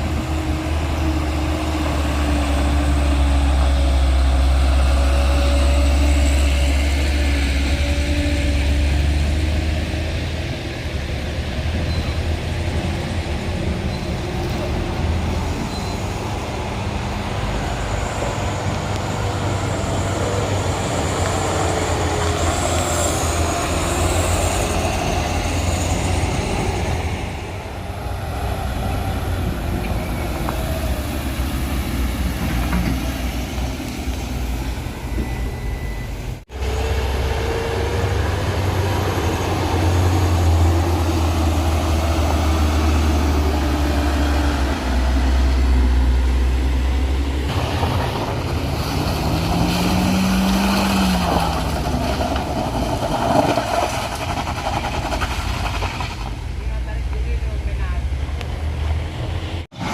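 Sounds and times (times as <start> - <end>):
truck diesel engines rumbling: 0.0 - 59.9.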